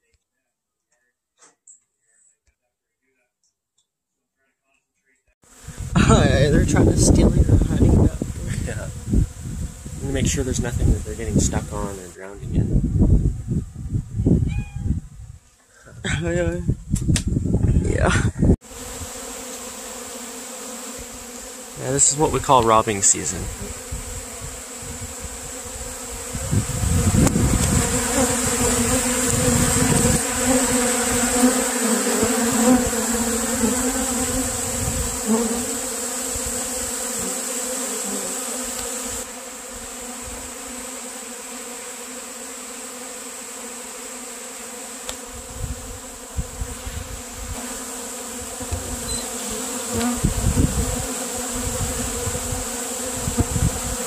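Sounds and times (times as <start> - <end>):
honeybees buzzing: 5.4 - 13.9, 18.5 - 54.0.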